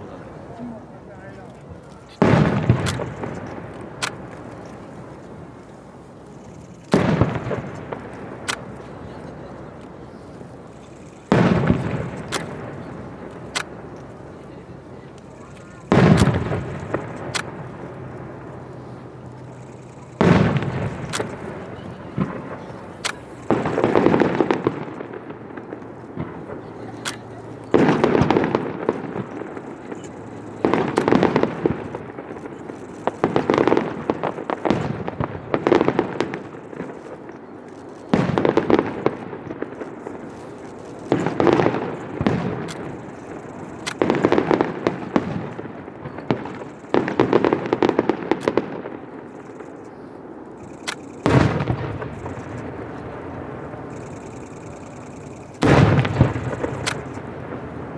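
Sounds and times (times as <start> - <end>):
firework shells bursting: 0.0 - 57.9
sharp firework cracks: 0.0 - 57.9.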